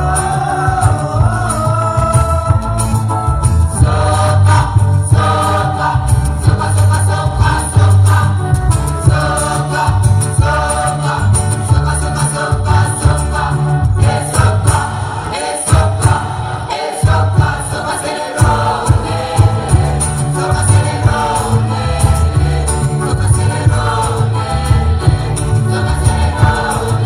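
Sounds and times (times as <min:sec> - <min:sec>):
choir singing in harmony: 0:00.0 - 0:27.0
deep bass line: 0:00.0 - 0:27.0.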